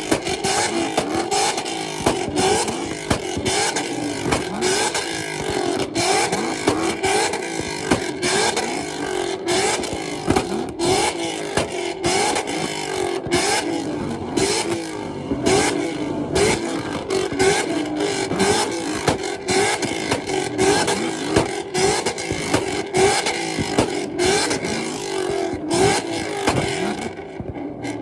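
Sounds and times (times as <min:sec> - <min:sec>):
car engine revving in blips: 0:00.0 - 0:28.0
exhaust cracks: 0:00.0 - 0:28.0.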